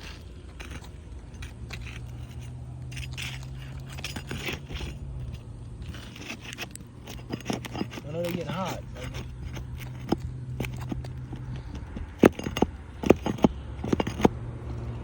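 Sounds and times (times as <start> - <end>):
roof shingles being pried up: 0.0 - 15.0.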